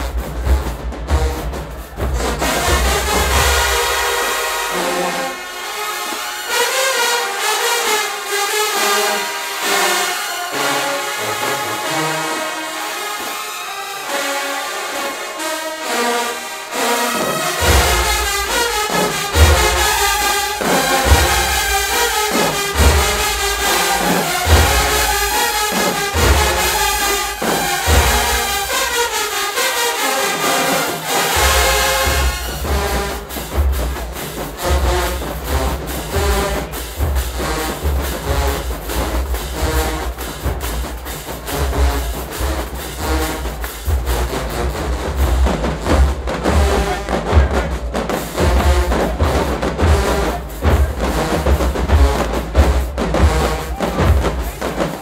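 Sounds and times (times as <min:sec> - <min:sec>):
trumpets playing: 0:00.0 - 0:55.0.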